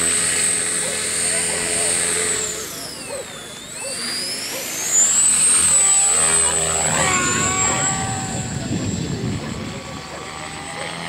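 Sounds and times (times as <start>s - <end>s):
helicopter rotor noise: 0.0s - 11.0s
rc helicopter motor whine: 0.0s - 11.0s.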